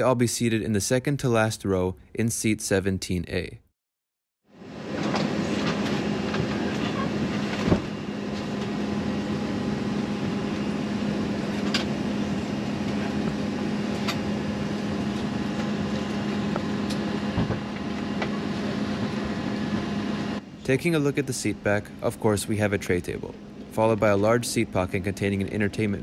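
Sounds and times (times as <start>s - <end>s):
cabin air-conditioning hum: 0.0s - 3.6s, 4.6s - 26.0s.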